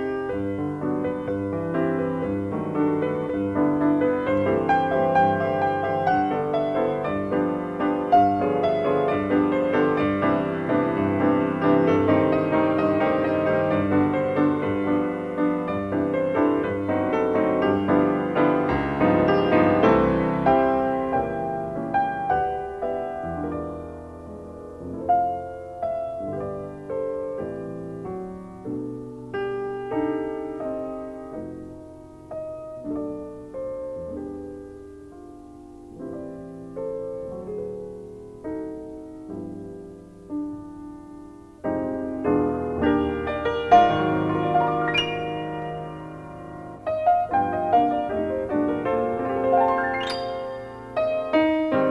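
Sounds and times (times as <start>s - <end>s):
gentle piano music: 0.0s - 51.9s.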